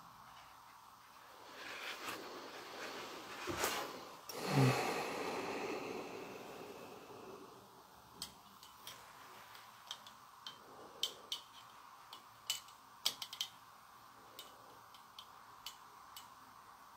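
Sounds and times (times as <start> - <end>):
low steady hiss: 0.0 - 16.9.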